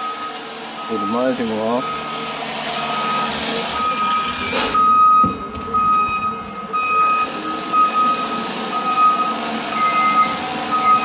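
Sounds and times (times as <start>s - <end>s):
backup alarm beeping: 0.0s - 11.0s.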